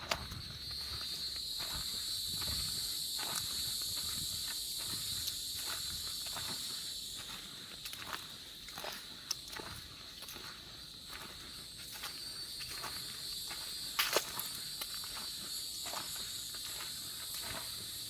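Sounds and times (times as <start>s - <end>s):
footsteps on forest trail: 0.0s - 18.0s
high-pitched insect buzz: 0.1s - 10.4s, 11.1s - 18.0s.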